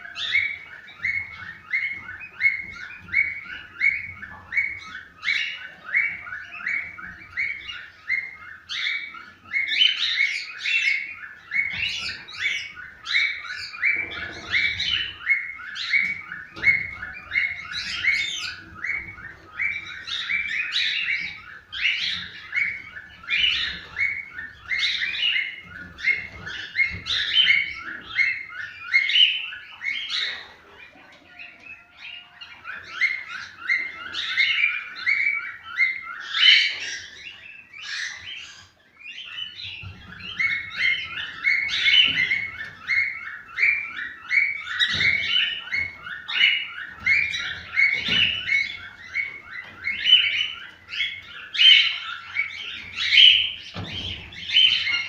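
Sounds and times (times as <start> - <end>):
cockatiels chirping: 0.0 - 55.0.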